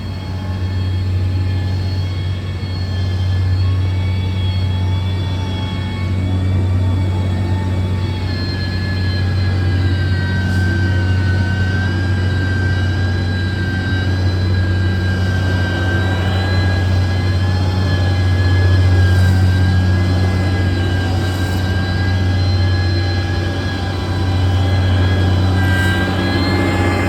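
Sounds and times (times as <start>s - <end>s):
diesel engine droning: 0.0s - 27.0s
high engine whine: 0.0s - 27.0s.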